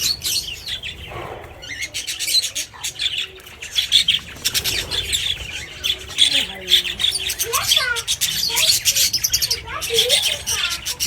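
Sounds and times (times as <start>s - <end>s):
chorus of birds calling: 0.0s - 11.0s.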